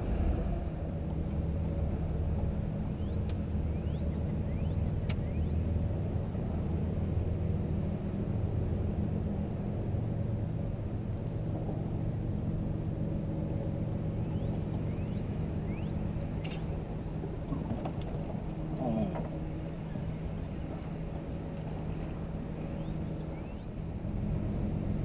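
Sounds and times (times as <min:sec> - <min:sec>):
outboard motor humming: 0:00.0 - 0:25.0.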